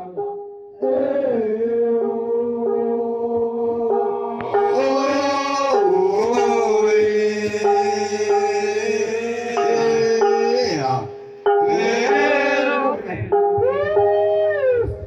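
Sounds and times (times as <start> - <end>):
men chanting in held notes: 0.8 - 13.4.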